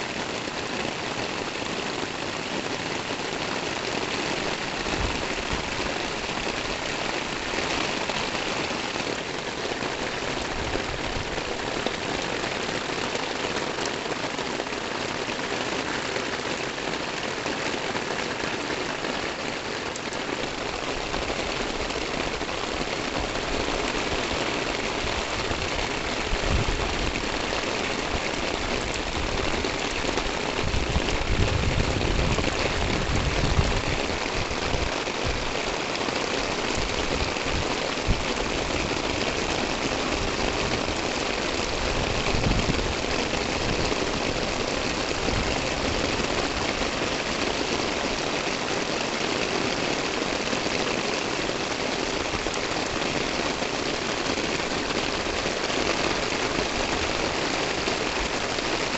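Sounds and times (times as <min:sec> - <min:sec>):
heavy rain on concrete: 0:00.0 - 0:58.9.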